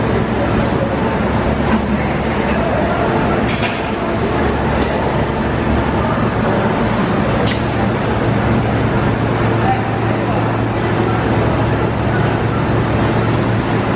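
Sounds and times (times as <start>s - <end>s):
conveyor hum: 0.0s - 13.9s.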